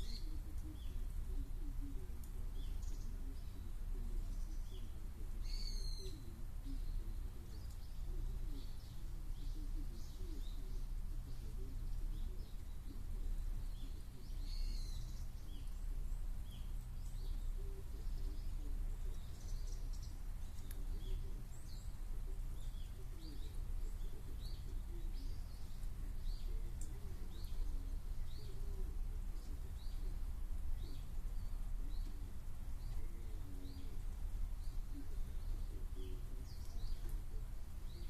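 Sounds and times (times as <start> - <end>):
small birds chirping: 0.0 - 38.0
steady low hum: 0.0 - 38.0.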